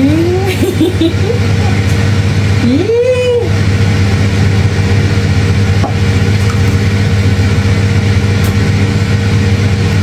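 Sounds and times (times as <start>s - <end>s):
air fryer motor and fan hum: 0.0s - 10.0s.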